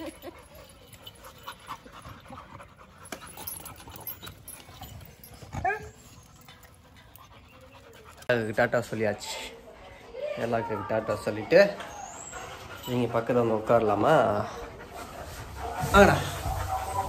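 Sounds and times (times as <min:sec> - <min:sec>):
dog panting: 0:00.0 - 0:10.2, 0:11.4 - 0:17.0.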